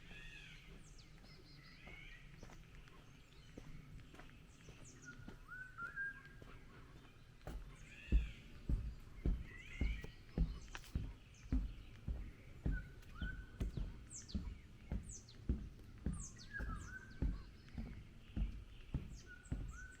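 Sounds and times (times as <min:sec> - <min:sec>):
footsteps on forest path: 0:00.0 - 0:20.0
songbirds calling: 0:00.0 - 0:20.0.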